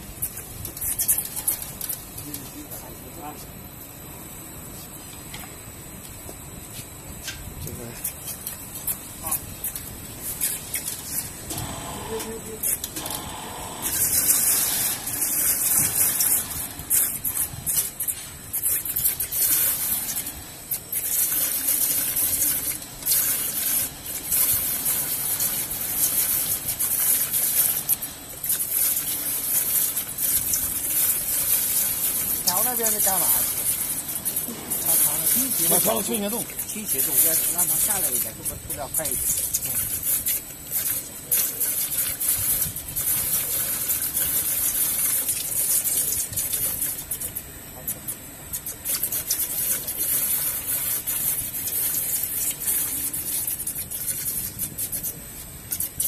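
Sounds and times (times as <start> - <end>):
hot metal hissing in liquid: 0.0 - 5.0, 6.6 - 56.0
screws gushing into quench tank: 8.1 - 56.0.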